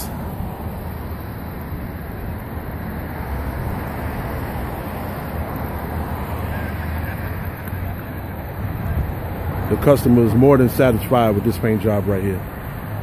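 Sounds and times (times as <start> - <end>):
motor vehicle rumble: 0.0 - 13.0.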